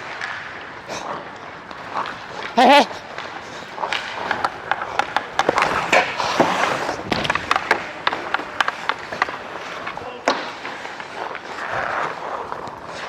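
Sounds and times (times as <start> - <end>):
skates scraping on ice: 0.0 - 13.0
sticks and puck clacking: 0.0 - 13.0.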